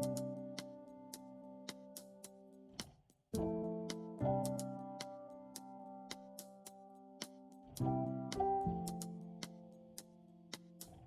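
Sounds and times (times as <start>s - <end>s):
held keyboard chord: 0.0s - 2.5s, 3.4s - 10.8s.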